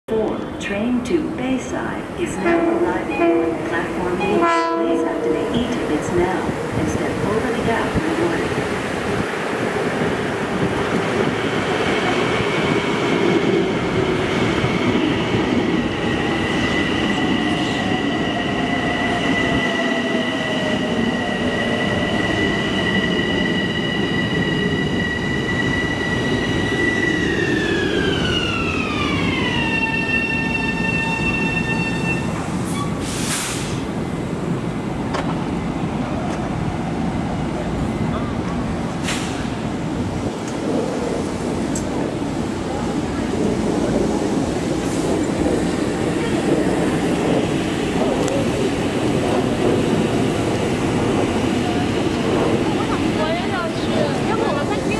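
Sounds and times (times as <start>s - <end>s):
high steady train whine: 0.1s - 54.9s
train wheels rumbling: 0.3s - 54.9s.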